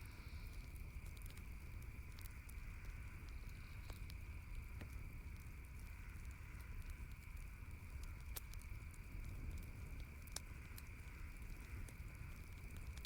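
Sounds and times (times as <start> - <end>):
campfire crackling and popping: 0.0 - 13.0
faint high-pitched hiss: 0.0 - 13.0.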